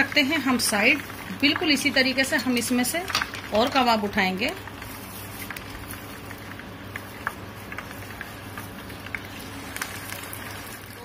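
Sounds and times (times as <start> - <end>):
crackles and pops of oil: 0.0 - 11.0
hot oil sizzling in a pan: 0.0 - 11.0.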